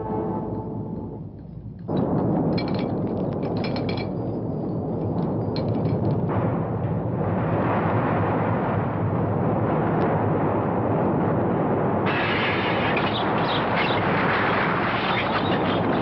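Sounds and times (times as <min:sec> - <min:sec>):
earthquake rumble: 0:00.0 - 0:16.0.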